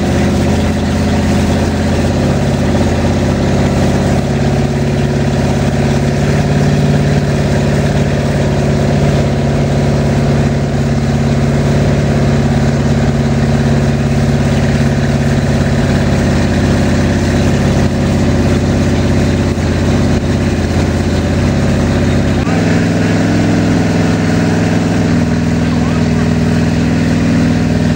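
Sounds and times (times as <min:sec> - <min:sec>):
boat engine running loudly: 0:00.0 - 0:27.9.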